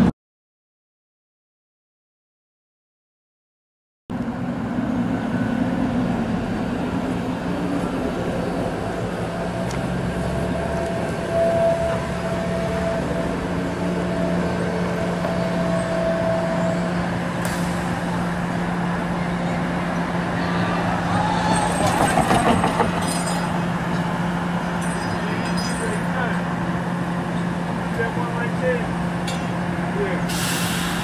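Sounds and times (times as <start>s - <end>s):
streetcar approaching: 4.1s - 31.0s
traffic hum: 4.1s - 31.0s.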